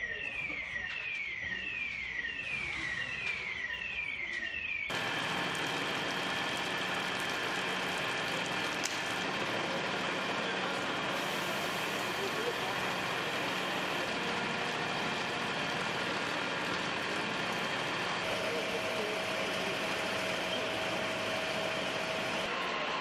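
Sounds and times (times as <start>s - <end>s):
emergency siren wailing: 0.0s - 23.0s.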